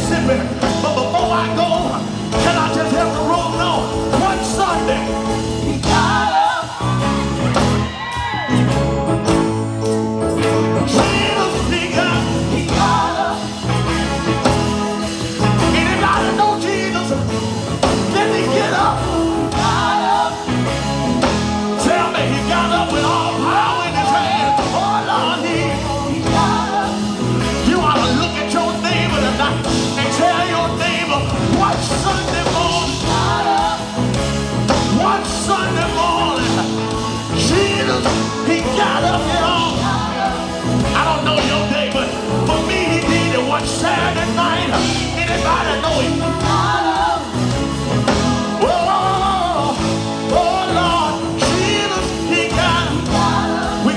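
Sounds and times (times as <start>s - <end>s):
band with guitar bass and keyboard: 0.0s - 53.9s
gospel quartet singing: 0.0s - 53.9s.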